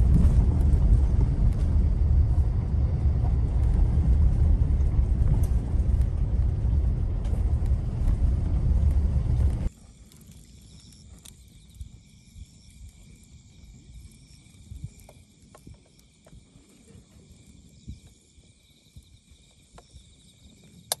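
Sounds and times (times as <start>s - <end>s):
wood fire crackling and popping: 0.0s - 18.3s
insects chirping: 0.1s - 21.0s.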